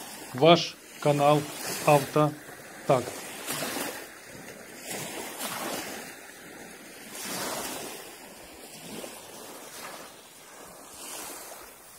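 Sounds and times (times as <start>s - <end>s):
small waves breaking on beach: 0.0s - 11.9s.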